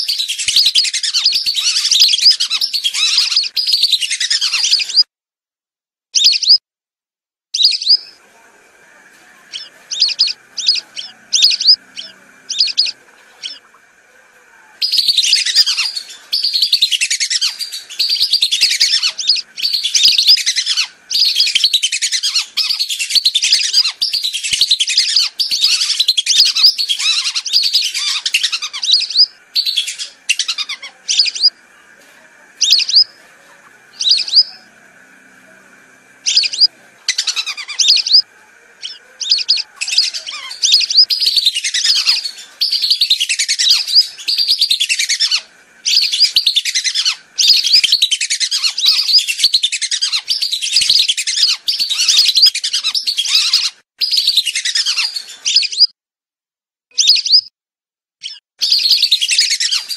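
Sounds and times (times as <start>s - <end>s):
ducks shrill whistled calls: 0.0s - 5.1s, 6.2s - 6.6s, 9.3s - 13.8s, 14.8s - 32.0s, 32.6s - 35.0s, 35.9s - 55.9s, 57.0s - 57.5s, 58.2s - 59.9s.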